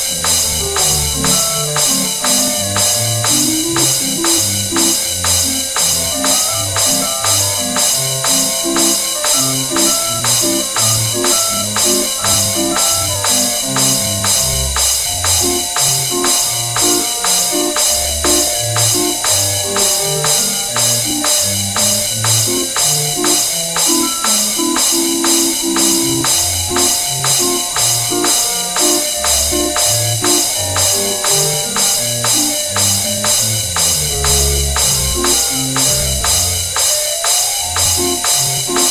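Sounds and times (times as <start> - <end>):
bright cymbal clashes: 0.0 - 38.9
upbeat music: 0.0 - 38.9.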